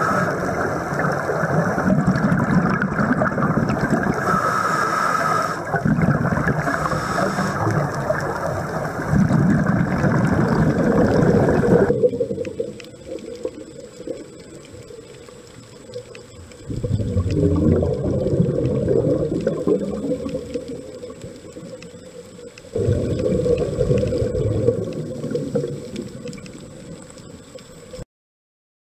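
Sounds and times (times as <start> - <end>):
diver's regulator and exhaled bubbles: 0.0 - 28.0.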